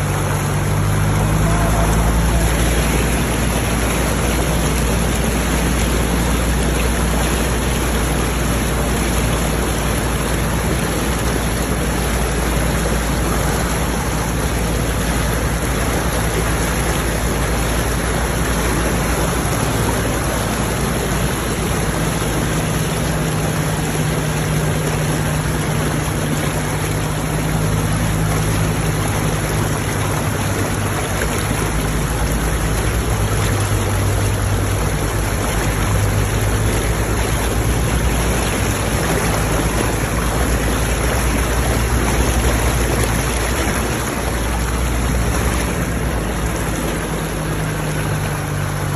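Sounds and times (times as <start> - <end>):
diesel engine drone: 0.0 - 48.9
floodwater rushing and splashing: 0.0 - 48.9.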